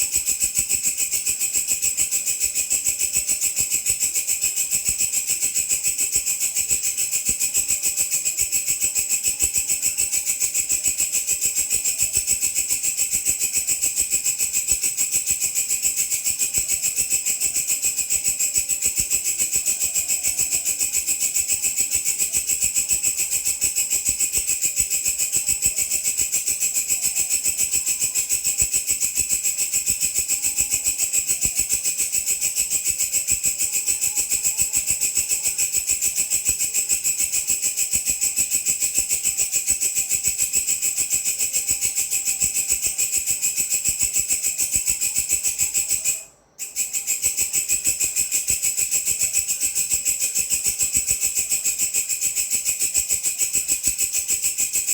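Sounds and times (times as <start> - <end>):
grasshopper stridulating: 0.0 - 54.9.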